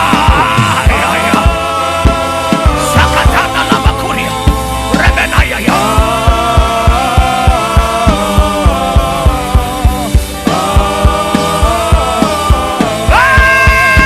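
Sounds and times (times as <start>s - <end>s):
steady drum beat: 0.0s - 14.0s
worship music with held chords: 0.0s - 14.0s.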